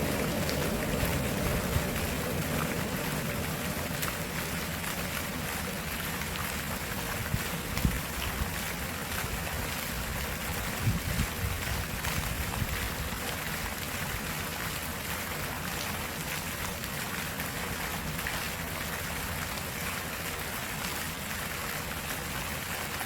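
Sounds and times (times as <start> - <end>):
stream water flowing: 0.0 - 23.0.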